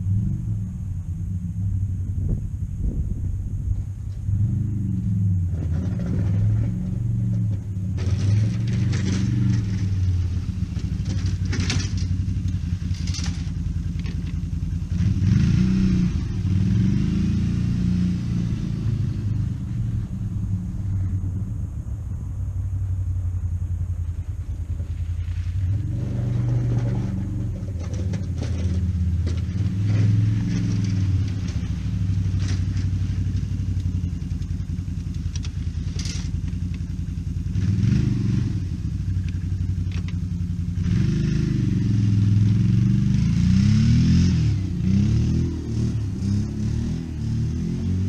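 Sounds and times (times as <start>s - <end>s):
vehicle engine revving: 0.0s - 48.0s.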